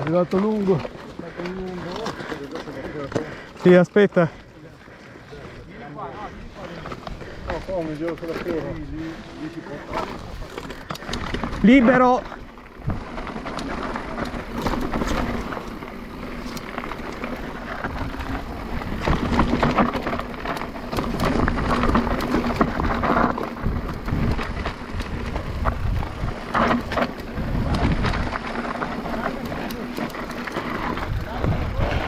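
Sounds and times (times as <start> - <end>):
bike rattling over rocks: 0.0 - 4.9, 6.2 - 32.0.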